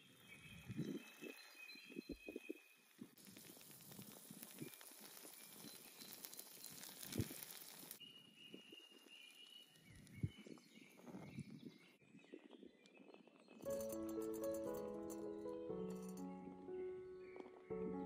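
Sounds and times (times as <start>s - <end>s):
birds chirping softly: 0.0s - 3.6s, 4.4s - 18.0s
faint sizzling and crackling: 0.0s - 18.0s.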